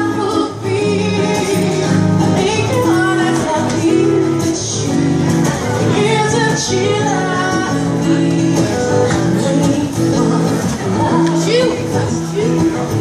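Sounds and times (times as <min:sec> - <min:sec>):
acoustic guitar: 0:00.0 - 0:13.0
woman singing: 0:00.0 - 0:13.0.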